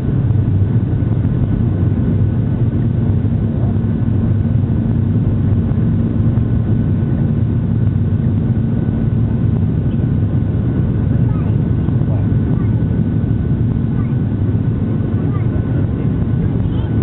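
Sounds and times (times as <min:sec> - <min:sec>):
faint constant whine: 0:00.0 - 0:17.0
jet engines droning: 0:00.0 - 0:17.0.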